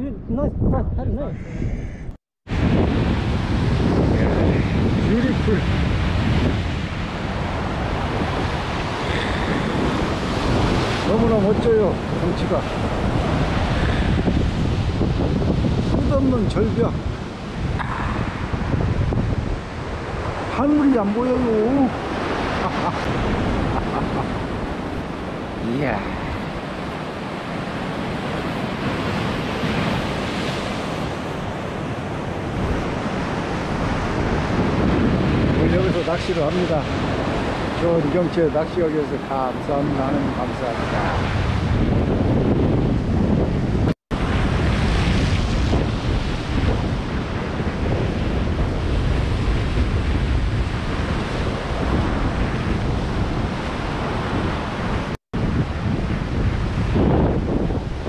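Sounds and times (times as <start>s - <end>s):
wind buffeting microphone: 0.0s - 58.0s
sea surf breaking on rocks: 2.5s - 58.0s.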